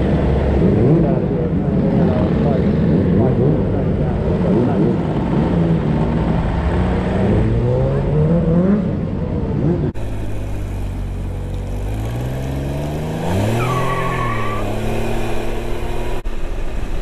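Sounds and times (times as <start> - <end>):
motorcycle engine accelerating: 0.0 - 16.2.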